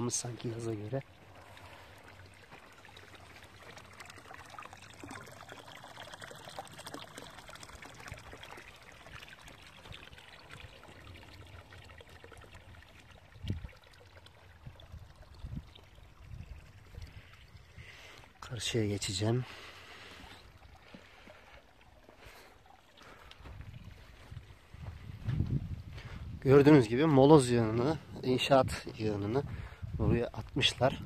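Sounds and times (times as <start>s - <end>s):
water pouring into trough: 0.0s - 25.1s.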